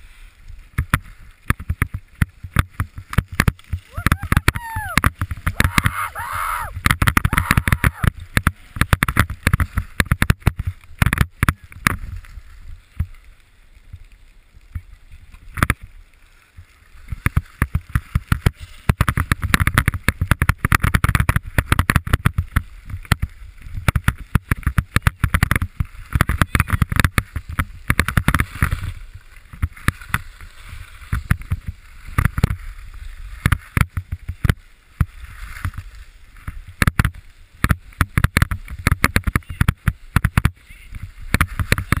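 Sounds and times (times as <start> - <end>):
skis scraping over snow: 0.0 - 42.0
wind rumbling on microphone: 0.0 - 42.0.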